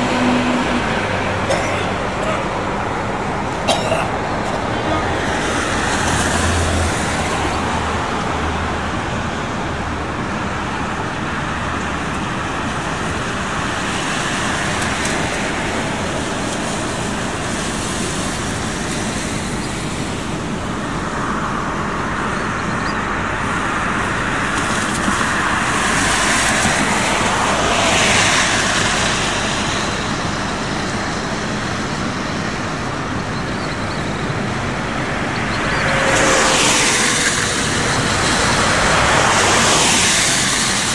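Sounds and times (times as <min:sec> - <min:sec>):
buses and traffic driving by: 0:00.0 - 0:40.9.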